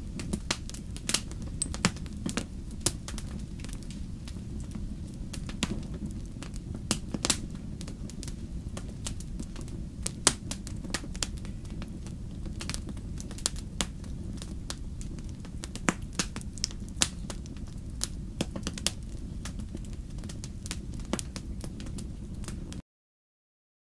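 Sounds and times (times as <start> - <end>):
campfire crackling and popping: 0.0 - 22.8
low fire rumble: 0.0 - 22.8.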